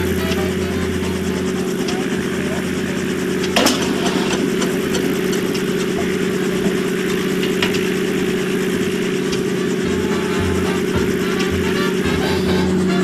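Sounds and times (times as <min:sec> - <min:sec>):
vintage engine idling: 0:00.0 - 0:13.0.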